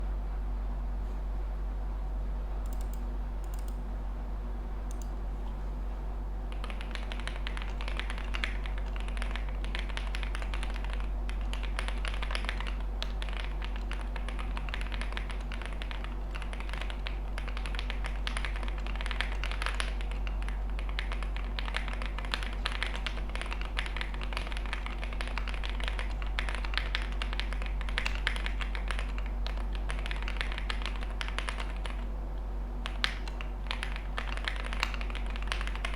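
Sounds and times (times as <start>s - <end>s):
low steady hum: 0.0s - 35.9s
mechanical keyboard typing: 2.6s - 3.8s, 6.5s - 32.0s, 32.8s - 35.9s.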